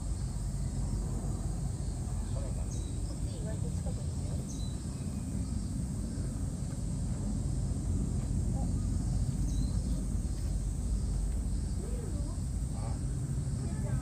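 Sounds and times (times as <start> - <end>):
faint distant voices: 0.4 - 14.0.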